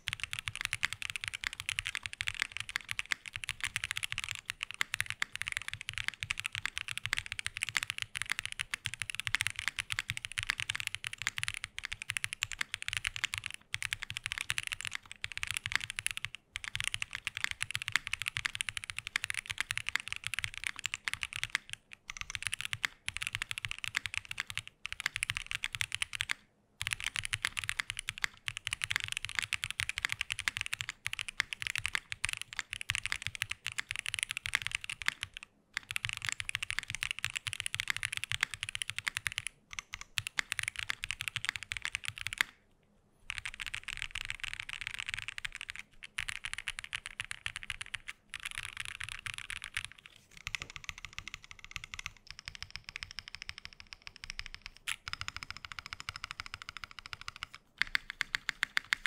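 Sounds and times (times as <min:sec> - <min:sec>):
fast mechanical keyboard typing: 0:00.0 - 0:42.6, 0:43.3 - 0:59.0.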